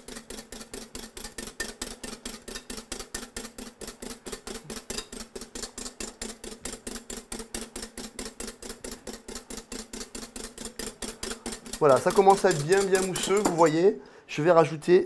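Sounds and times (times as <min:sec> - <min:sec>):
whisk clicking against glass bowl: 0:00.0 - 0:14.0.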